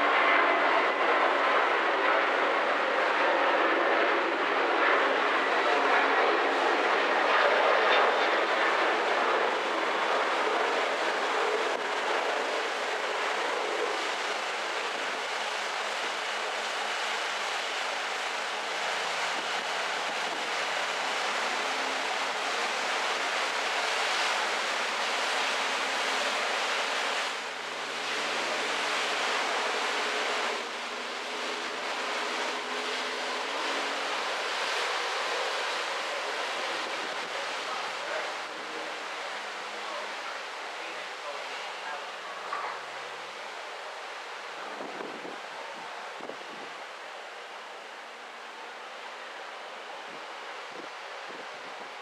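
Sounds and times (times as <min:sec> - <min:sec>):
wind and sea rushing: 0:00.0 - 0:52.0.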